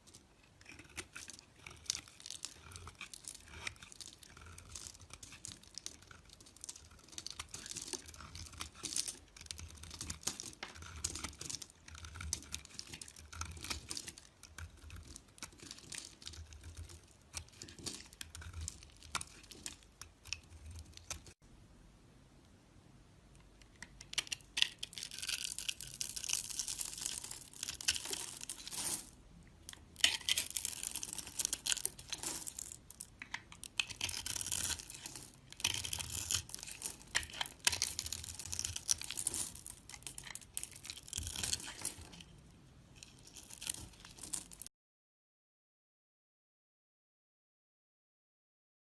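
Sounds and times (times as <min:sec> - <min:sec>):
blade cutting and scraping soap: 0:00.0 - 0:21.4, 0:23.6 - 0:42.4, 0:43.0 - 0:44.6.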